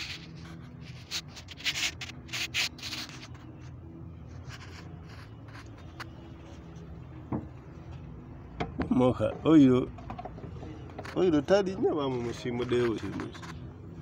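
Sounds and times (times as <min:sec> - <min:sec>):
rubbing and scraping: 0:00.0 - 0:07.8, 0:09.2 - 0:14.0.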